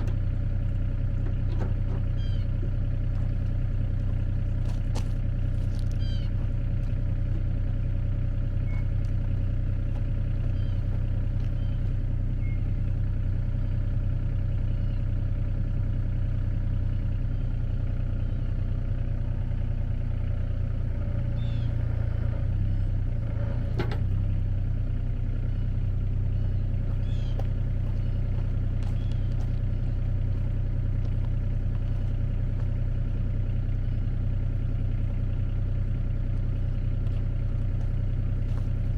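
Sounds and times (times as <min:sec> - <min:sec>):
vehicle engine droning: 0:00.0 - 0:38.9.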